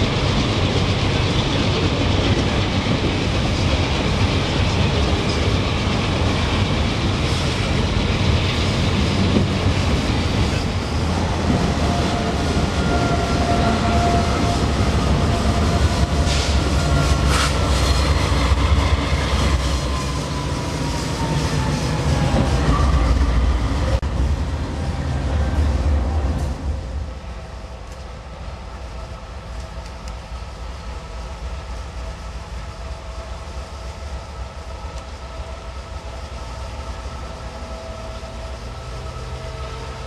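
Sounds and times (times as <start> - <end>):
clickety-clack of train wheels: 0.0 - 40.0
diesel locomotive rumble: 0.0 - 40.0
freight train rumbling past: 0.0 - 40.0.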